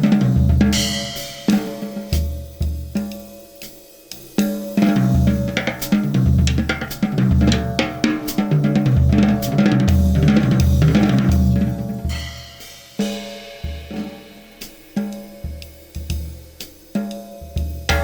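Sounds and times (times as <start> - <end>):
drums and cymbals: 0.0 - 18.0.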